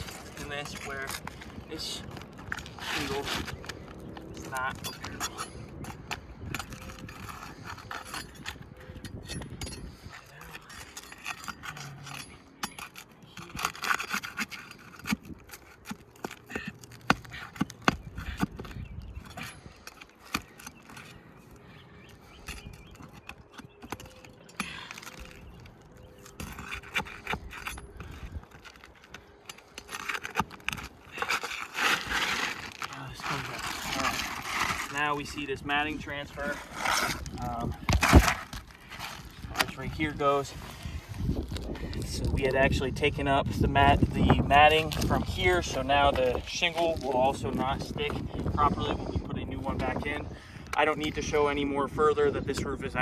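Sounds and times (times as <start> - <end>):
metal tool scraping shingles: 0.0 - 42.8.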